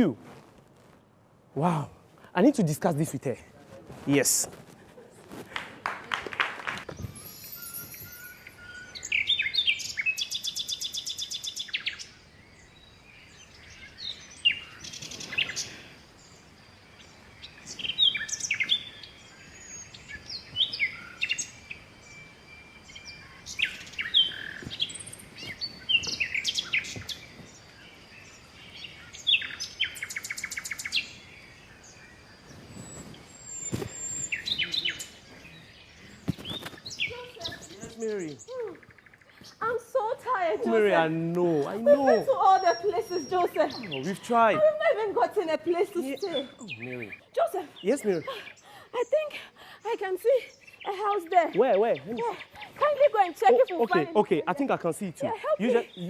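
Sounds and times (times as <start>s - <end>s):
birds singing: 6.8s - 56.0s.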